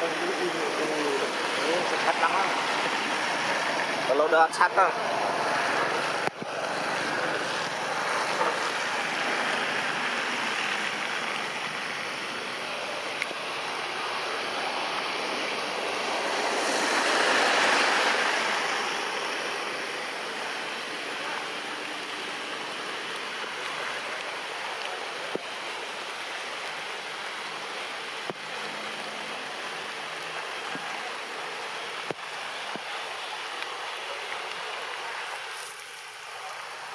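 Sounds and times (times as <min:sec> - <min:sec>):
rain falling on leaves: 0:00.0 - 0:36.9.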